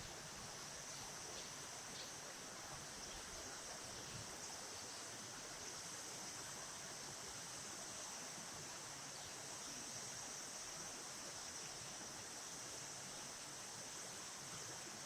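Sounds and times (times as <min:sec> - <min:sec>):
high insect drone: 0:00.0 - 0:15.0
river water flowing: 0:00.0 - 0:15.0.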